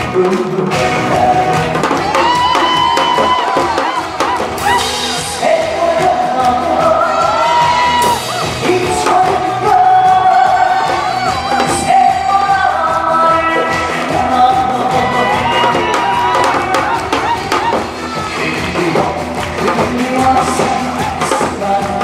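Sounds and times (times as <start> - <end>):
man singing into microphone: 0.0 - 2.8, 4.8 - 22.0
backing music: 0.0 - 22.0.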